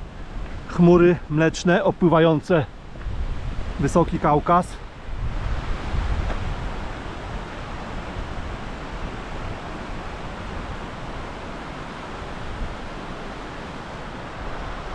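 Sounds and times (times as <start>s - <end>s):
wind buffeting the microphone: 2.6s - 14.9s.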